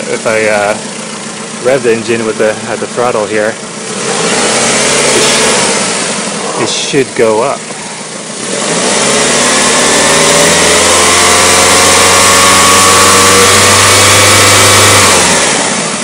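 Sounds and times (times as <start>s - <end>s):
car engine idling: 0.0s - 16.0s
car engine revving: 0.0s - 16.0s.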